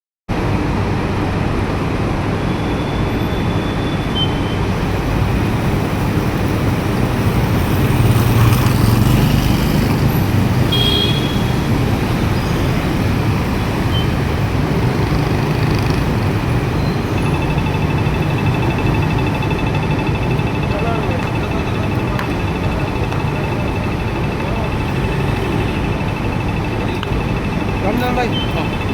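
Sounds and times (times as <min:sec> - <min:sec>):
street traffic: 0:00.3 - 0:28.9
pedestrian crossing signal beeping: 0:02.3 - 0:28.9
heavy vehicle passing: 0:04.8 - 0:28.9.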